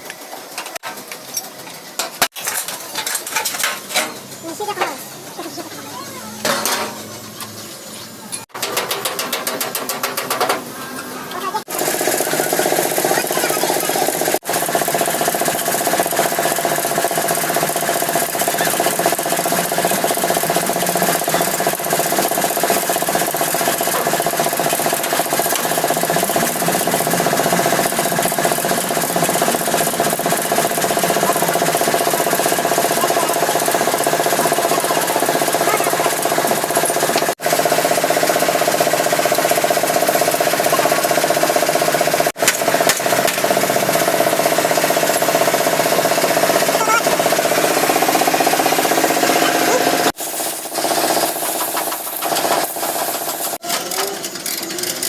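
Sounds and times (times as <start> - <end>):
machine humming and rattling: 0.0 - 55.0.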